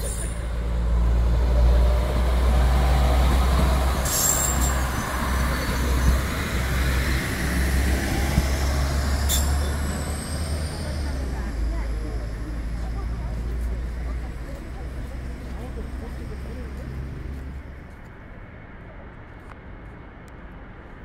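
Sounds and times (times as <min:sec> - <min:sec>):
diesel railcar passing: 0:00.0 - 0:19.2.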